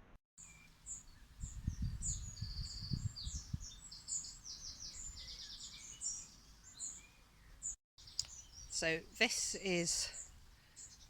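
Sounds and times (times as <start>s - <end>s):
songbirds trilling and chirping: 0.4s - 11.0s.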